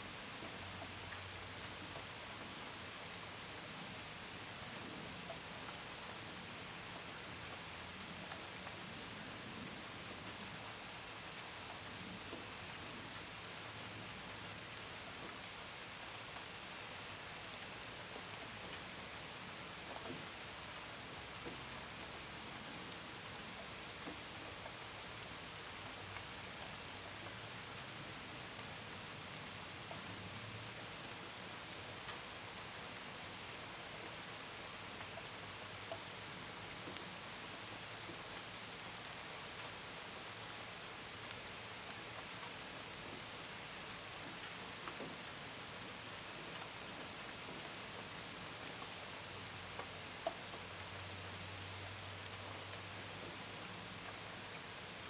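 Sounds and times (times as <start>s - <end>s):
gentle rain: 0.0s - 55.0s.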